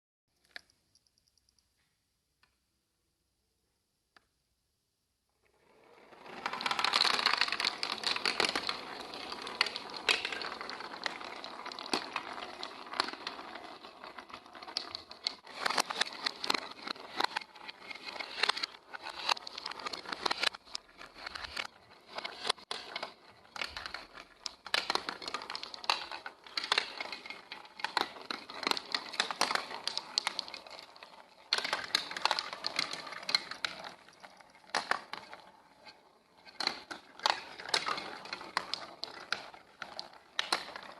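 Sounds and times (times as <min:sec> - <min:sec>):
marbles clattering down plastic run: 0:05.9 - 0:40.9.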